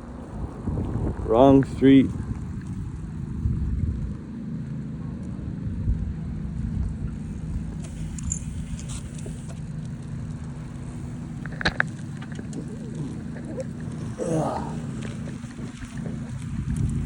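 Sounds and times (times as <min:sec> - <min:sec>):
wind on microphone: 0:00.0 - 0:04.3, 0:05.4 - 0:17.0
bike riding hum: 0:00.0 - 0:17.0.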